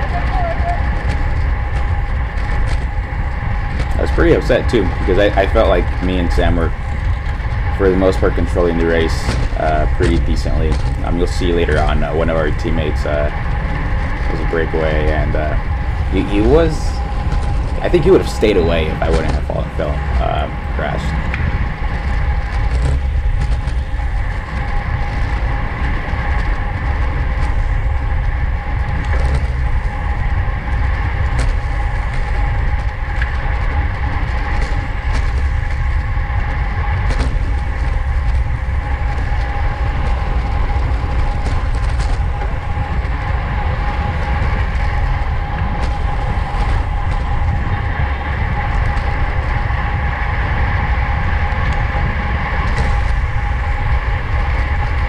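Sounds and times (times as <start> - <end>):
steady high hum: 0.0 - 55.0
wind rushing over microphone: 0.0 - 55.0.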